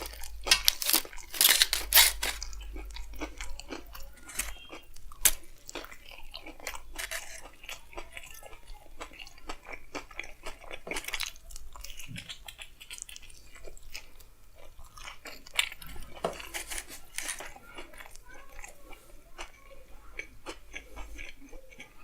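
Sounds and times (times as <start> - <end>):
close chewing with crunching: 0.0 - 22.0.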